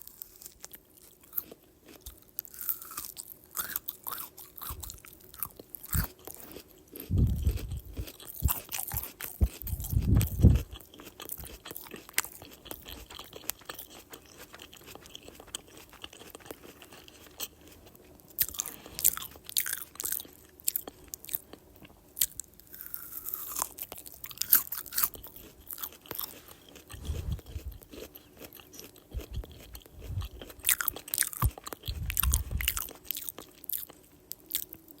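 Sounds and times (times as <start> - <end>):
crunching apple: 0.0 - 21.6, 22.2 - 34.8.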